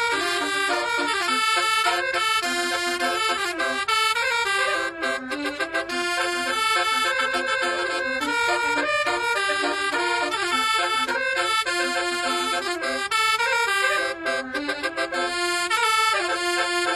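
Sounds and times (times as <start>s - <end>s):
musical air horn melody: 0.0s - 16.9s.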